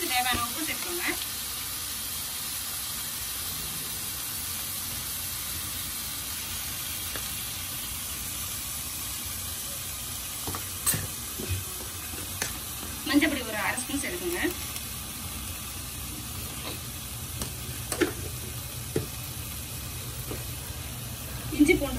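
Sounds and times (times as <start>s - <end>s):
chicken sizzling in oil: 0.0s - 21.9s.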